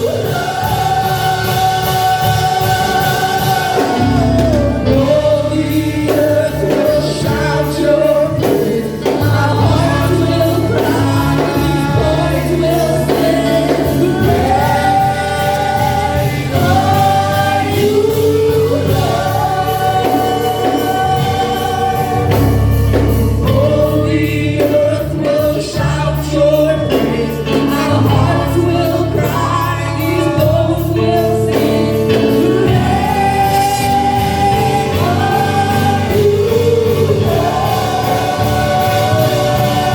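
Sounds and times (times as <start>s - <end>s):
gospel choir singing: 0.0s - 39.9s
instrumental backing with bass and beat: 0.0s - 39.9s.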